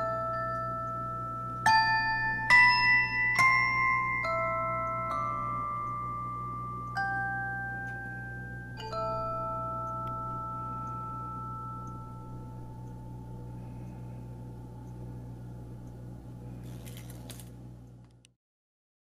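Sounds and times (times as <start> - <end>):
bell-like chord ringing: 0.0 - 16.6
steady low hum: 0.0 - 18.4.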